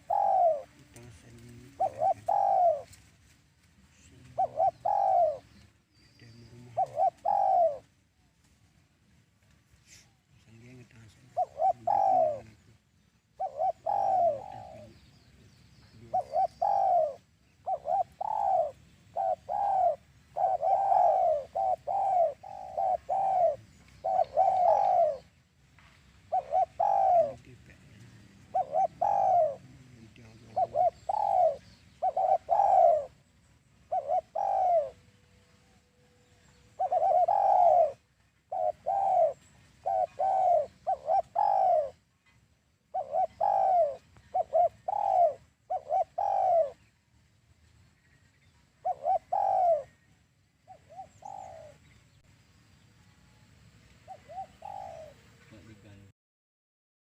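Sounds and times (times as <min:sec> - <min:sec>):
doves cooing: 0:00.0 - 0:03.1, 0:03.7 - 0:08.4, 0:09.9 - 0:47.2, 0:47.9 - 0:52.3, 0:53.9 - 0:56.1.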